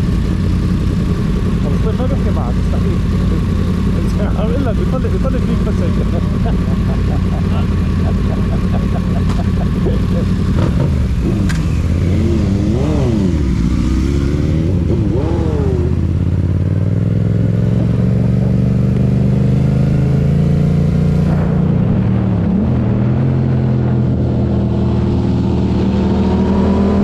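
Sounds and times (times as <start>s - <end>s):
motorcycle engine running: 0.0s - 23.3s.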